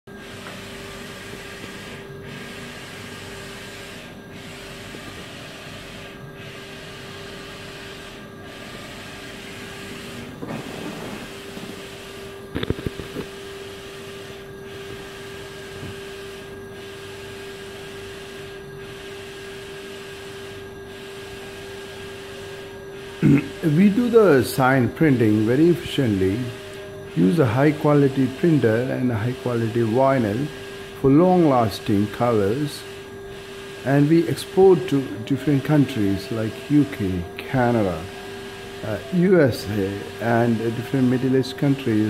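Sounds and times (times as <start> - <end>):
inkjet printer running: 0.1 - 42.0.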